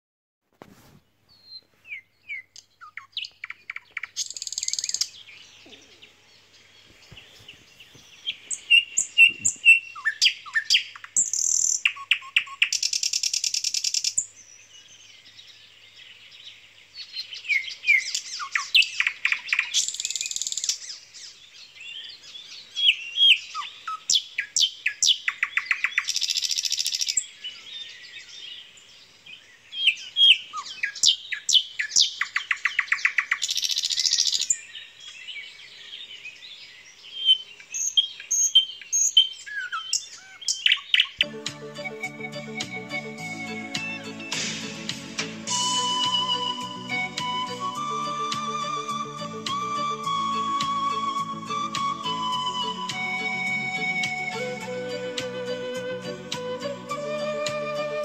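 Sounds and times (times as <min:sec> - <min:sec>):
songbirds chirping: 0:00.7 - 0:58.0.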